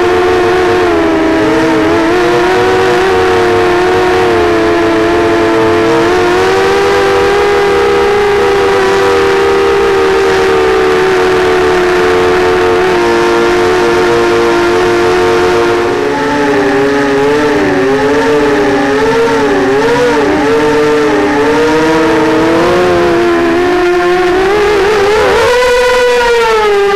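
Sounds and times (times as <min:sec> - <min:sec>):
drone motors and propellers whining: 0:00.0 - 0:26.9.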